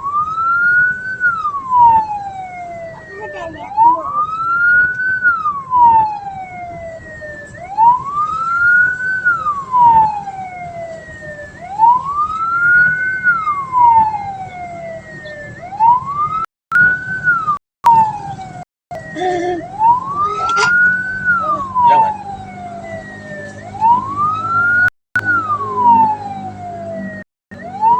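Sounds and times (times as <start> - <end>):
vehicle siren wailing: 0.0 - 27.9.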